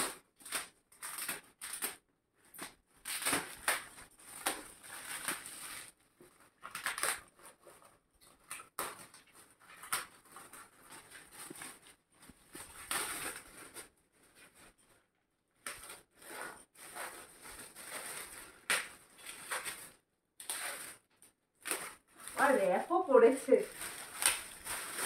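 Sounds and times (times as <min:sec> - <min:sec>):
paper rustling and tearing: 0:00.0 - 0:15.0, 0:15.6 - 0:25.0.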